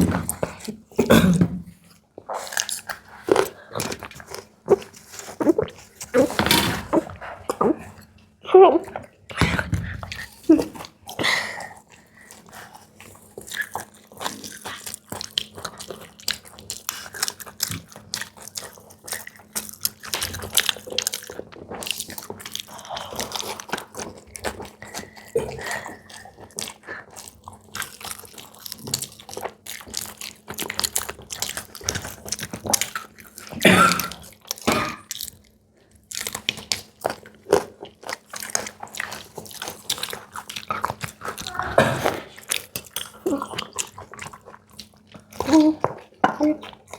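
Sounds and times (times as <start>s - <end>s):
chewing crisp fried snacks: 1.8s - 6.4s, 7.0s - 46.9s.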